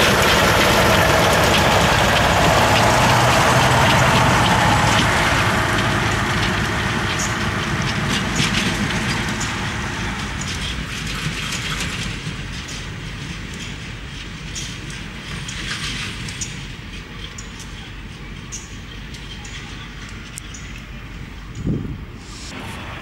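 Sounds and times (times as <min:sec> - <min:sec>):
wheels clicking over rails: 0:00.0 - 0:21.8
train rumbling on tracks: 0:00.0 - 0:23.0.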